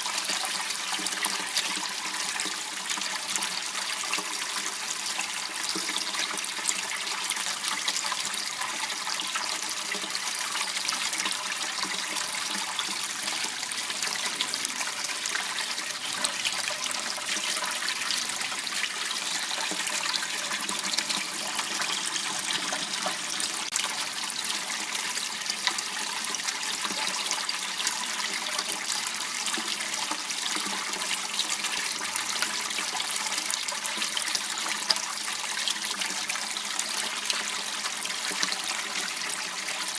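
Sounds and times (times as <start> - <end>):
water running in stream: 0.0 - 39.9.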